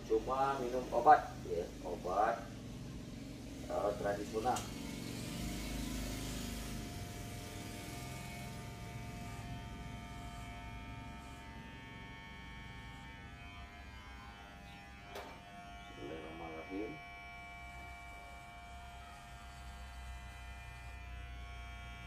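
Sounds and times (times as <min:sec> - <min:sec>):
electric hair clippers buzzing: 0:00.0 - 0:22.0.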